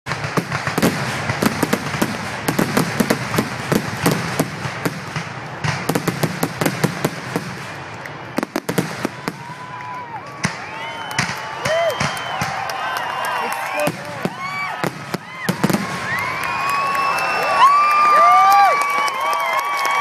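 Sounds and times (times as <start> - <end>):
fireworks bursts: 0.1 - 20.0.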